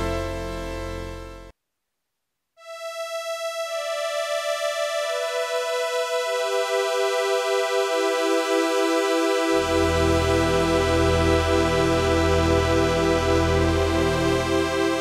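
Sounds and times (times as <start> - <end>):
synthesizer string chord: 0.0 - 1.5, 2.6 - 15.0.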